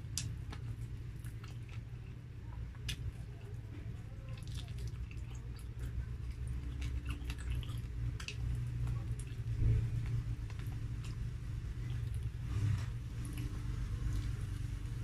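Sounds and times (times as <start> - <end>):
chewing and mouth clicks: 0.0 - 15.0
low hum: 0.0 - 15.0.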